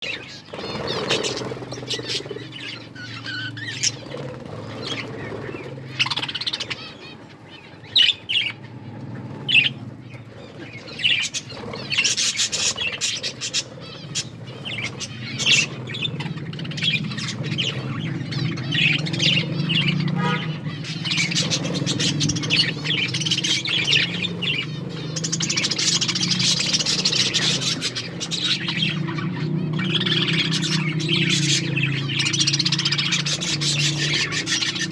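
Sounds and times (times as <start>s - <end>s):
budgerigars chirping and chattering: 0.0s - 34.9s
steady low hum: 0.0s - 34.9s.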